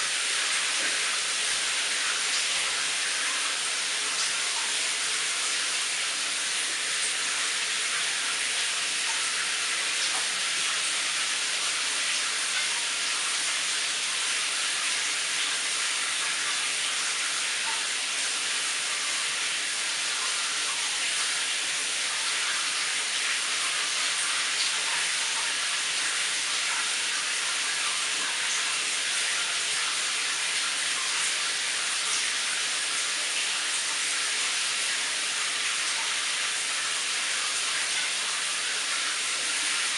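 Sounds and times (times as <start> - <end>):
shower running: 0.0 - 39.9.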